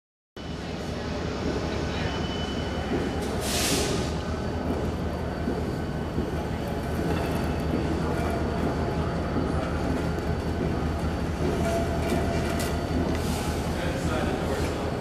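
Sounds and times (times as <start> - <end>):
train engine rumble: 0.4 - 15.0.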